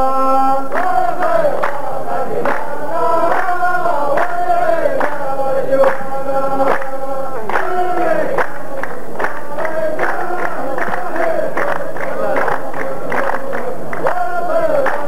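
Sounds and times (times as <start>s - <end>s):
men chanting in unison: 0.0s - 15.0s
hand claps: 0.7s - 15.0s.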